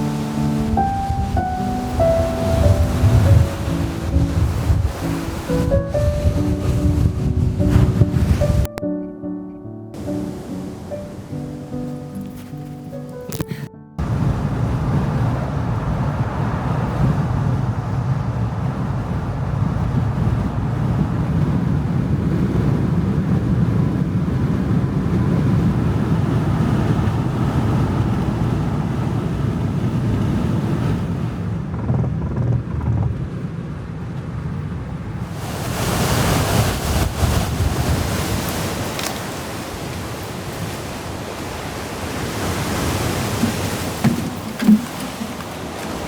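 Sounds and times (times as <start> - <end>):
ocean surf: 0.0 - 8.7, 9.9 - 31.8, 33.8 - 46.0
waves breaking: 0.0 - 8.7, 10.0 - 31.6, 35.1 - 46.0
wind buffeting microphone: 0.0 - 8.8, 10.0 - 12.2, 13.2 - 46.0.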